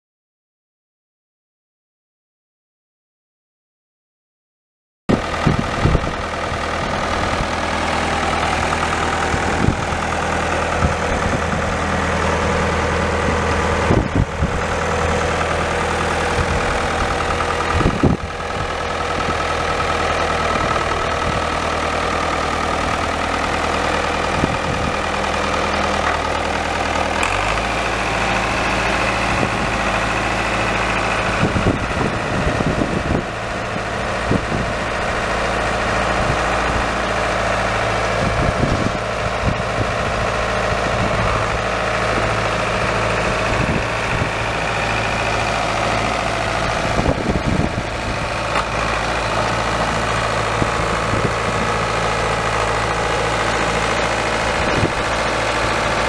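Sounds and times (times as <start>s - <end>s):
tractor diesel engine idling: 5.1s - 56.0s.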